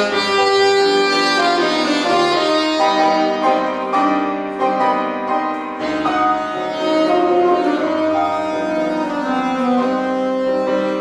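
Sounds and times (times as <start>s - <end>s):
saxophone melody: 0.0s - 4.6s, 5.8s - 11.0s
piano chords: 0.0s - 11.0s.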